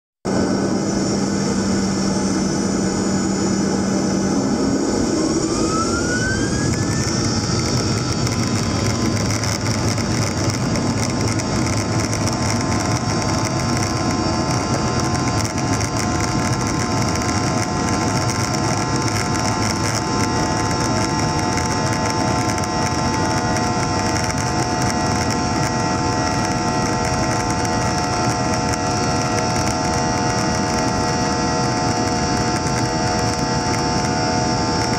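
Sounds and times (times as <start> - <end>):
engine whine: 0.3 - 34.9
jet engine roar: 0.3 - 34.9.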